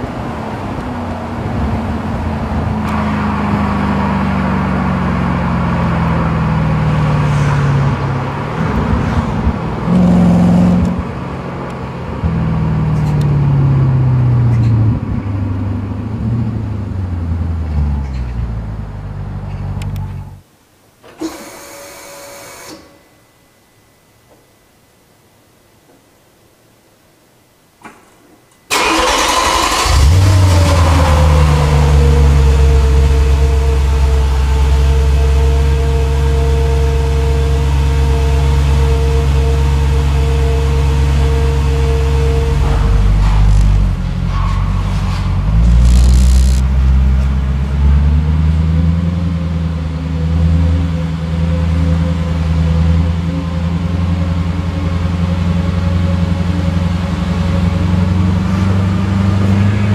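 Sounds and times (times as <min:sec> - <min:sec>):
car engine starting and idling: 0:00.0 - 0:20.4, 0:28.7 - 0:59.9.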